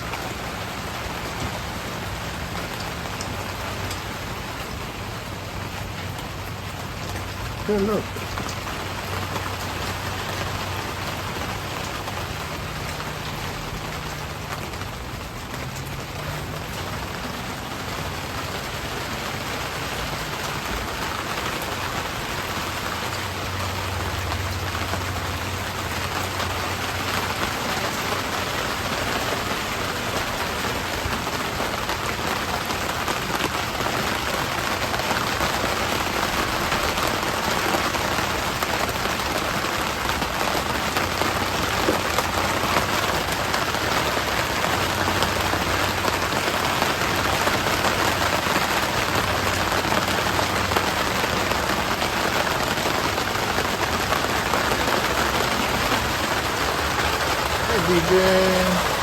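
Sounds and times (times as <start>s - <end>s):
rain falling on surfaces: 0.0s - 59.0s.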